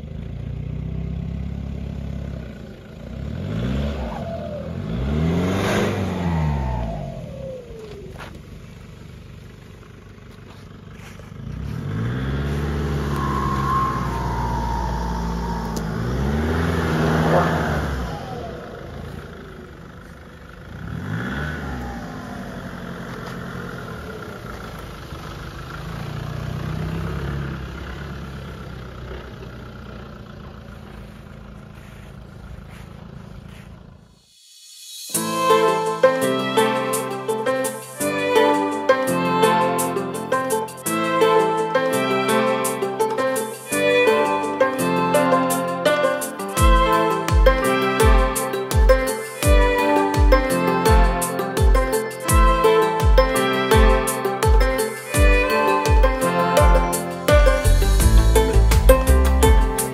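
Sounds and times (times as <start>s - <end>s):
diesel engine revving: 0.0s - 34.3s, 35.2s - 59.9s.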